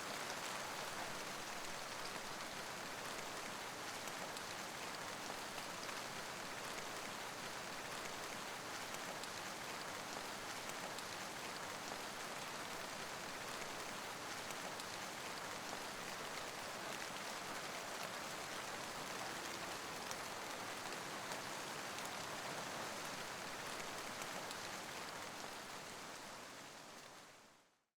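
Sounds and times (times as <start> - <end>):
rain falling: 0.0 - 27.6.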